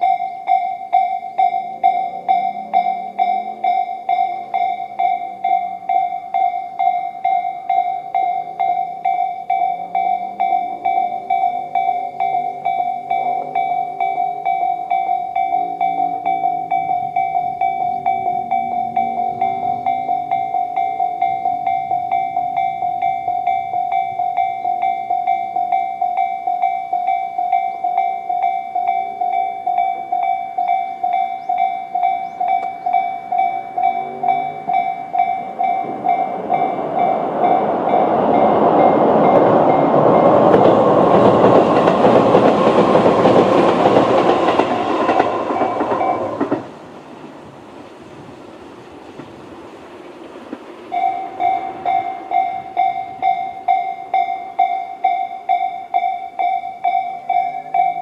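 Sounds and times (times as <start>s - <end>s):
level-crossing alarm ringing: 0.0s - 46.8s, 50.7s - 58.0s
approaching train rumble: 0.0s - 58.0s.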